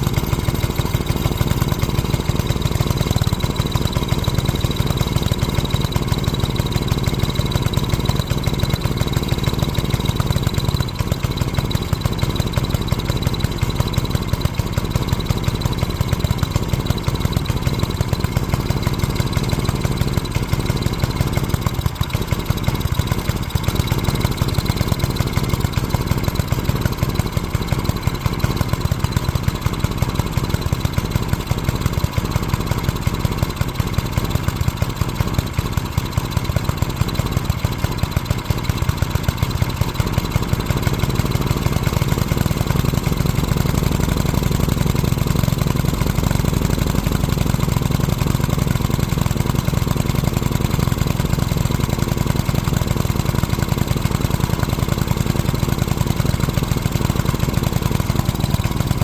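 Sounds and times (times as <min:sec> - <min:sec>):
small engine idling: 0:00.0 - 0:59.0.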